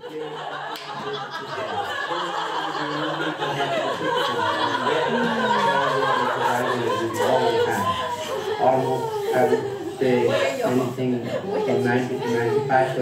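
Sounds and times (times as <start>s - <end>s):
people laughing: 0.0s - 13.0s
people talking: 0.0s - 13.0s.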